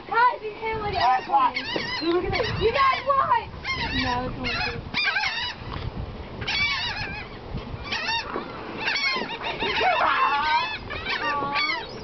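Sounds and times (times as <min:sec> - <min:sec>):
seagulls calling: 0:00.2 - 0:12.0.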